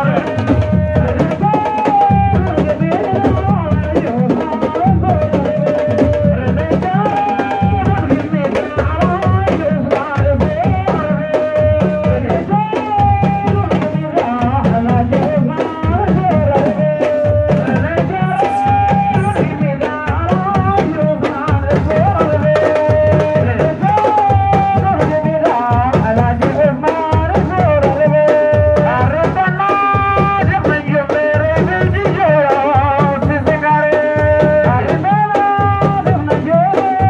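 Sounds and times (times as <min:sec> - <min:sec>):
fast dense drumming: 0:00.0 - 0:37.0.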